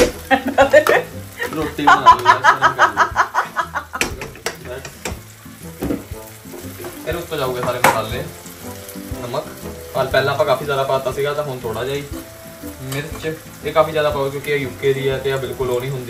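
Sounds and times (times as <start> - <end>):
sauce sizzling in a frying pan: 0.0 - 16.0.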